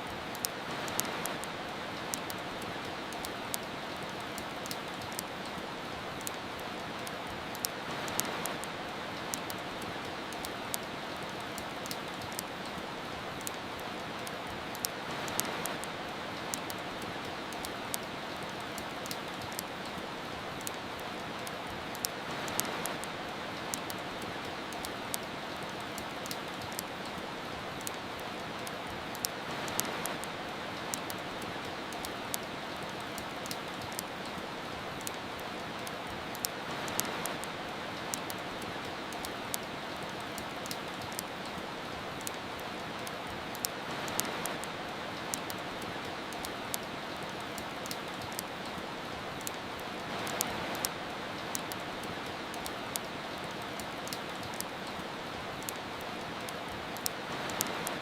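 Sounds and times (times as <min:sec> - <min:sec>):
steady rain: 0:00.0 - 0:58.0
wood fire crackling: 0:00.1 - 0:58.0.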